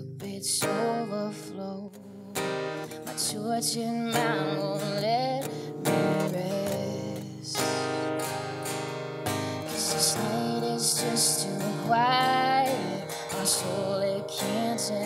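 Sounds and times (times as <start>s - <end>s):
woman singing: 0.0s - 8.5s, 9.3s - 15.0s
acoustic guitar strumming: 0.0s - 15.0s.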